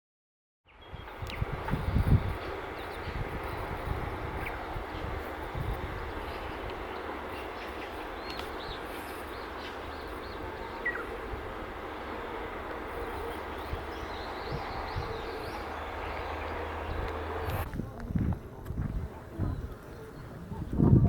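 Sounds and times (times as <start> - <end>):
small birds chirping: 0.7 - 17.7.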